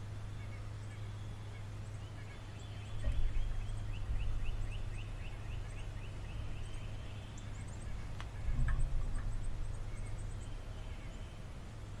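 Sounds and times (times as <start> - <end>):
low hum: 0.0 - 12.0
songbird chirping: 0.0 - 12.0.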